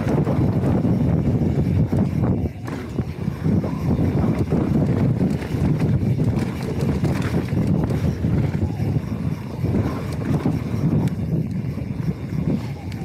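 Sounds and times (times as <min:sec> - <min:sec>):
bike rattling over bumps: 0:00.0 - 0:12.6
bike tyres rumbling on dirt: 0:00.0 - 0:12.7.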